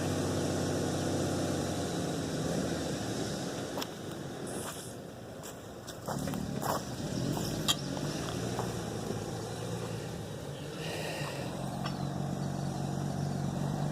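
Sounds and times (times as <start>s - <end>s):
engine idling: 0.0s - 13.9s.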